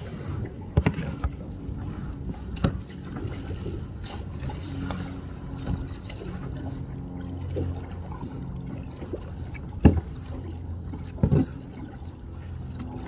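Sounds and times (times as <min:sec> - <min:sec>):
low steady hum: 0:00.0 - 0:13.0
water splashing around a boat: 0:00.0 - 0:13.0.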